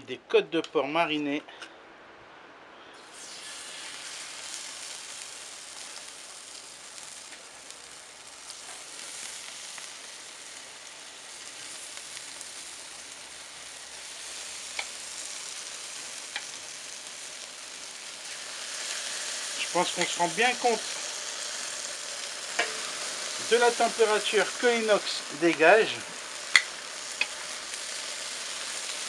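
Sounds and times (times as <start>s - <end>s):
meat sizzling on a grill: 3.0s - 29.0s.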